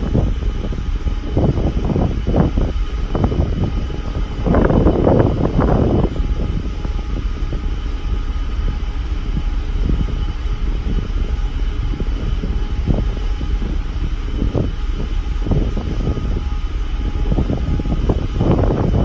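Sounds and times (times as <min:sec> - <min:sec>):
faint machinery hum: 0:00.0 - 0:19.0
ship moving through sea: 0:00.0 - 0:19.0
wind rumble: 0:00.0 - 0:19.0.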